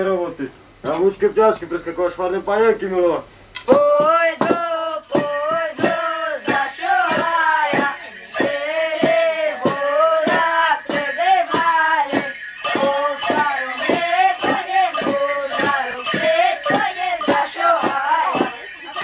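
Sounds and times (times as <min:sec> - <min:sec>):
person singing folk tune: 0:03.6 - 0:19.0.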